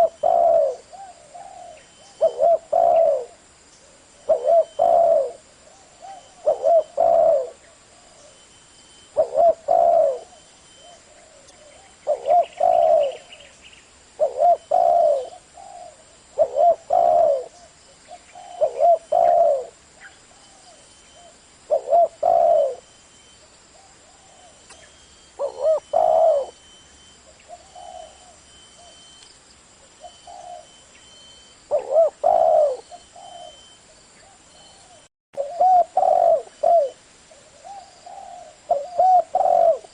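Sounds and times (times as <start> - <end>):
dove cooing: 0.0 - 13.5, 14.2 - 22.9, 23.8 - 29.1, 29.9 - 39.9.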